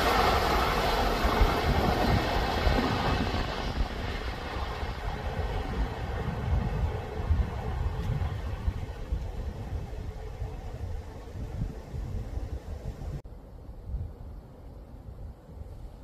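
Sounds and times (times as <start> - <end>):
passing train hiss and rumble: 0.0 - 16.0.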